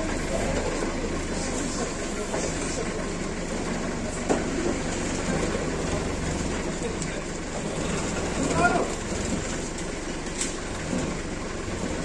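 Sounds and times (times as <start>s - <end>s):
forklift engine humming: 0.0s - 12.0s.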